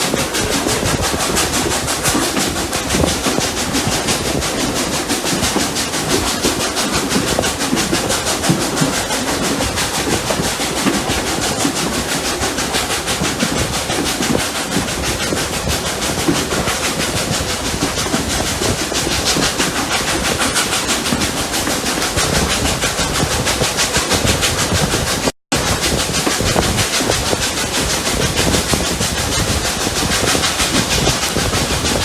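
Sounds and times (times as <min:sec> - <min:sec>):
steam hiss: 0:00.0 - 0:32.0
steam locomotive exhaust beats: 0:00.0 - 0:32.0.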